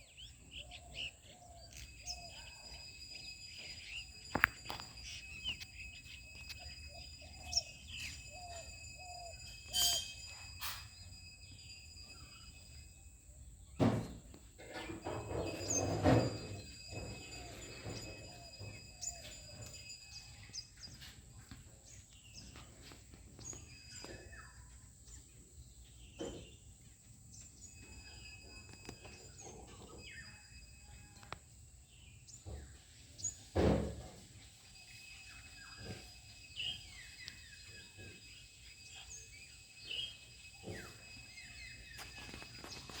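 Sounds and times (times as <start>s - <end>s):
birds chirping: 0.0s - 43.0s
steady high-pitched whine: 0.0s - 43.0s.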